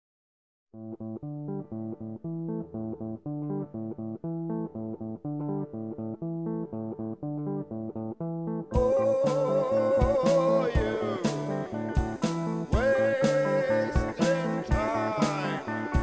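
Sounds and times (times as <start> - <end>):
plucked guitar music: 0.8 - 16.0.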